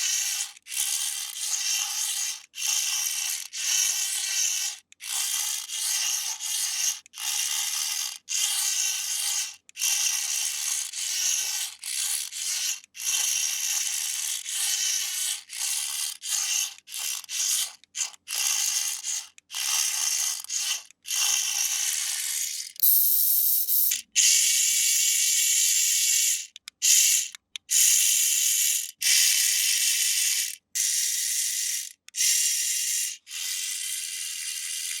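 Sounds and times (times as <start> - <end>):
toy car motor whirring: 0.0 - 35.0.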